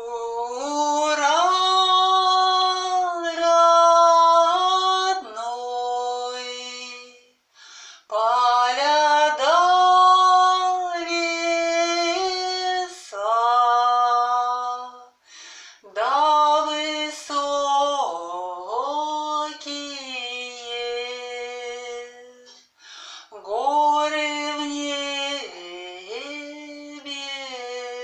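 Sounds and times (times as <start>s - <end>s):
woman singing unaccompanied: 0.0s - 7.4s, 8.1s - 15.2s, 15.8s - 22.7s, 23.3s - 28.0s.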